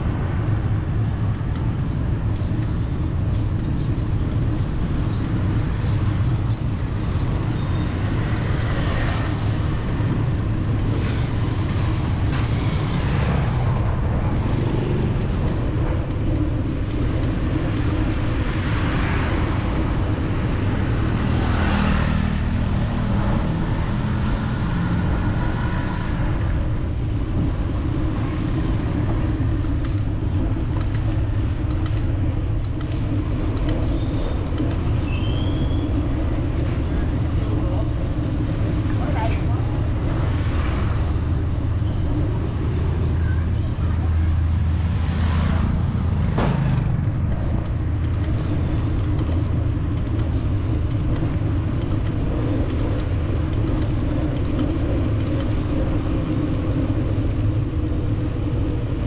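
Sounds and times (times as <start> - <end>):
city street traffic: 0.0 - 59.0
constant low rumble: 0.0 - 59.0
vehicles passing close: 0.0 - 59.0.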